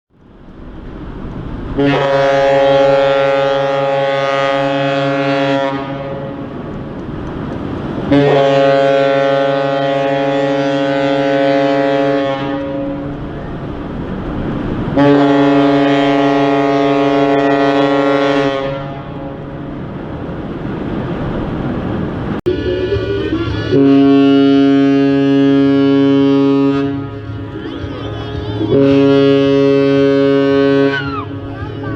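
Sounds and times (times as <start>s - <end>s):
ship's horn blasts: 1.6s - 7.0s, 7.6s - 21.1s, 21.9s - 31.9s.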